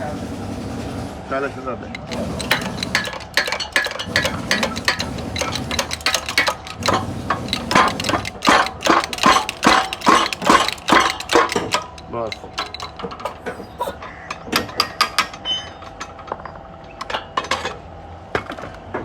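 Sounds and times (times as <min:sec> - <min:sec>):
hand tools clinking on metal: 0:01.9 - 0:17.9.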